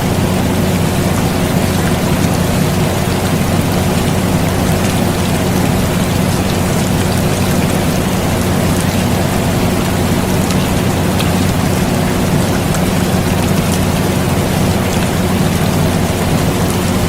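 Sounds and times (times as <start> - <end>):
air conditioner hum: 0.0 - 17.0
falling rain: 0.0 - 17.0.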